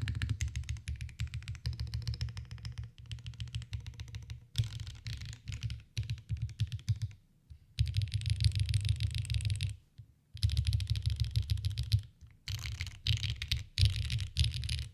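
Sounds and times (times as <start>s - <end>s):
mechanical keyboard typing: 0.0s - 7.2s, 7.8s - 9.7s, 10.4s - 14.9s.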